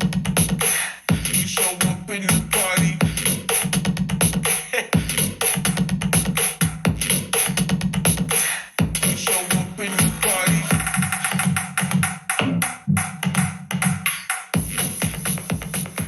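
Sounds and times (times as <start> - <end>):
electronic dance music from speaker: 0.0 - 16.0.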